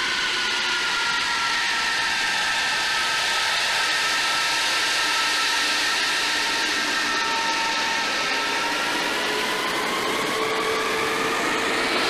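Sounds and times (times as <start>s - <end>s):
jet engines rushing and whining: 0.0s - 12.0s.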